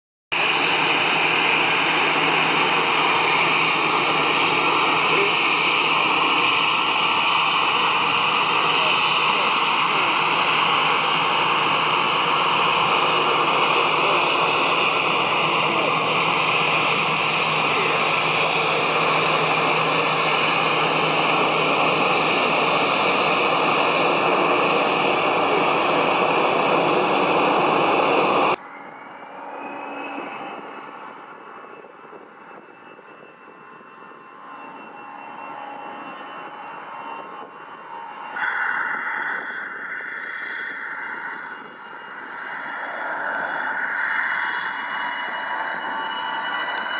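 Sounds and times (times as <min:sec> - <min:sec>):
loud jet engine noise: 0:00.3 - 0:46.9
quiet engine with rising whine: 0:01.4 - 0:46.9.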